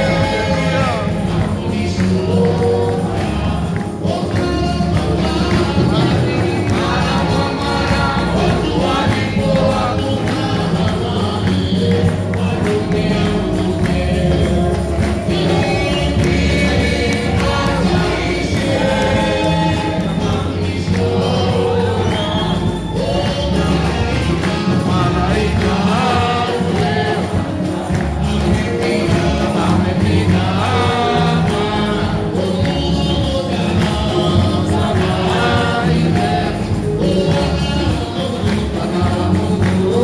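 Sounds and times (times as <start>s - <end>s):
congregation singing: 0.0s - 40.0s
instrumental accompaniment with bass: 0.0s - 40.0s.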